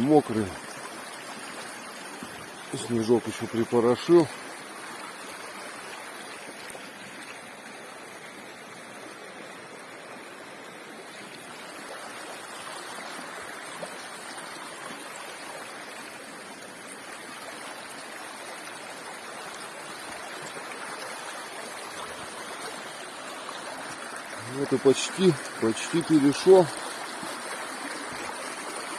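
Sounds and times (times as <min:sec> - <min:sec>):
river rushing over stones: 0:00.0 - 0:28.9.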